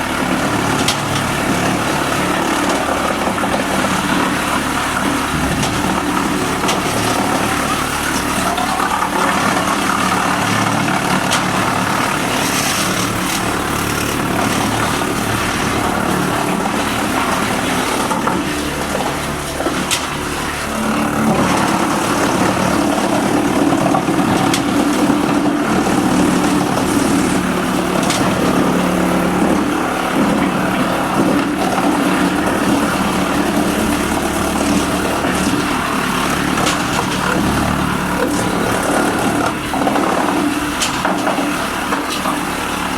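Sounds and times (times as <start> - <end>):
wood chipper engine running: 0.0 - 42.9.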